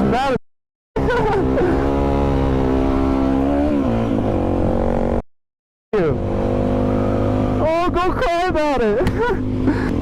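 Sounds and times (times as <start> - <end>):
motorcycle engine running: 1.0 - 5.2, 6.0 - 10.0.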